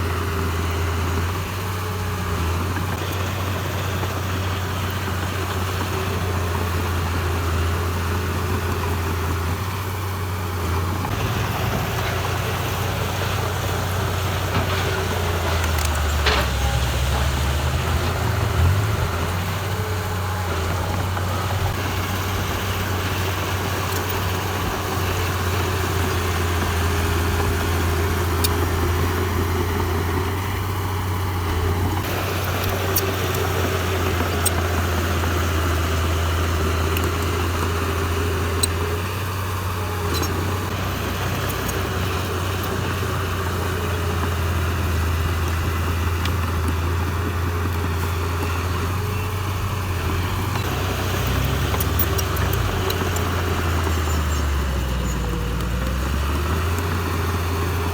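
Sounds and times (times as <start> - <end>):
diesel engine droning: 0.0 - 57.9.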